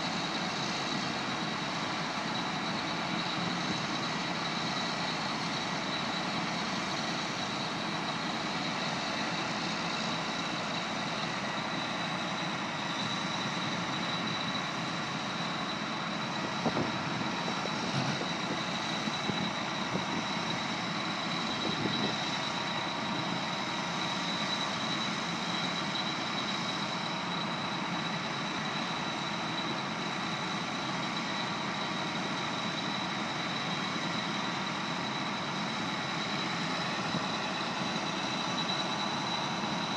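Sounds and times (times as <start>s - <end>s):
heavy diesel machinery running: 0.0s - 39.9s
hydraulics whining: 0.0s - 39.9s.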